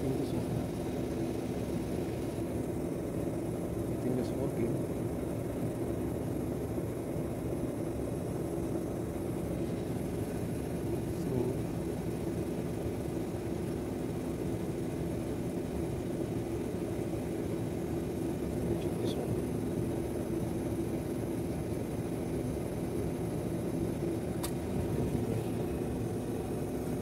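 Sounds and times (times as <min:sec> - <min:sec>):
air conditioning unit drone: 0:00.0 - 0:27.0.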